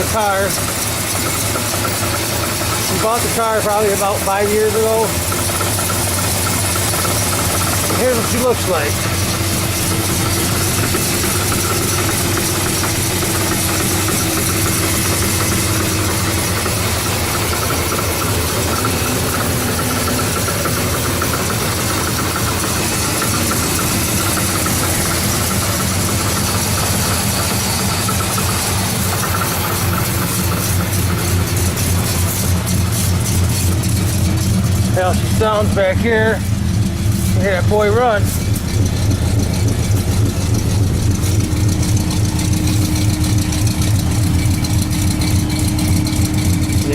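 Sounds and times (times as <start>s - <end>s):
car engine idling: 0.0s - 46.9s
exhaust header rattling: 0.0s - 46.9s.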